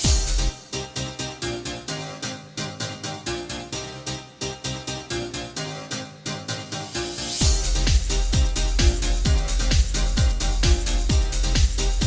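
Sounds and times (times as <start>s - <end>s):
music with quick repeated notes: 0.0s - 12.0s.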